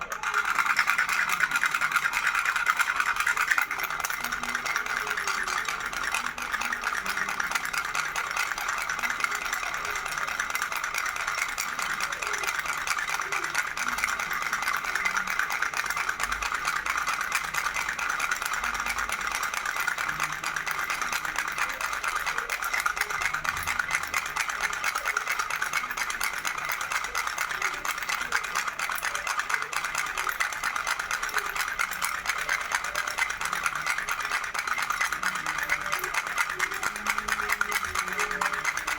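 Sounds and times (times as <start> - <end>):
baby rattle shaking: 0.0 - 38.9.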